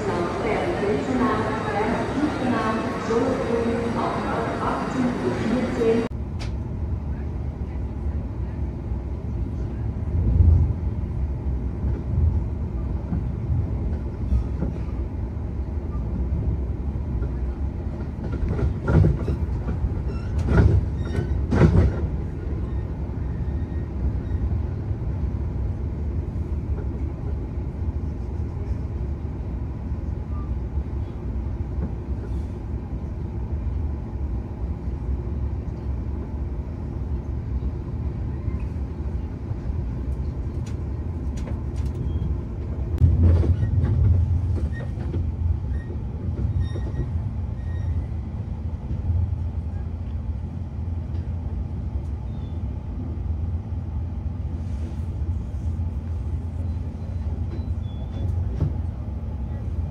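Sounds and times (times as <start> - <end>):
train rumbling inside carriage: 0.0 - 59.9.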